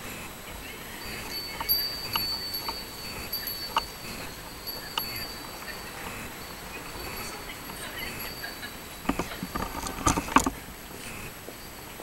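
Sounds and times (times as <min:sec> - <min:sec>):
wind chimes ringing: 0:00.9 - 0:10.6.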